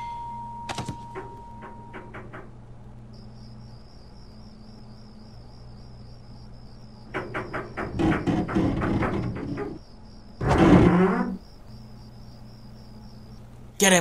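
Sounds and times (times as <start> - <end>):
crickets chirping: 0.0 - 14.0
low steady hum: 0.0 - 14.0.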